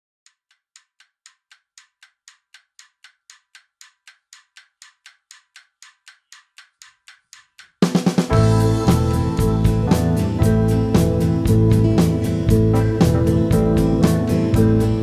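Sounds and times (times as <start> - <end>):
rapid clock-like ticking: 0.2 - 14.8.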